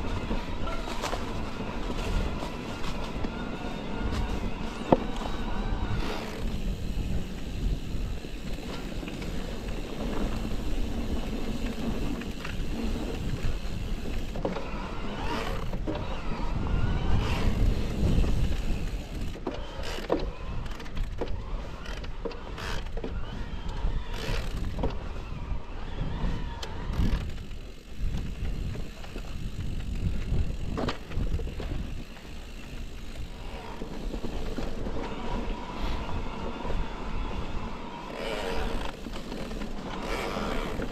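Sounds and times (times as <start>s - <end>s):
bike rattling and knocking: 0.0s - 25.3s, 26.9s - 36.7s, 38.1s - 40.9s
bike tyres rumbling on trail: 0.0s - 40.9s
wind: 0.0s - 40.9s.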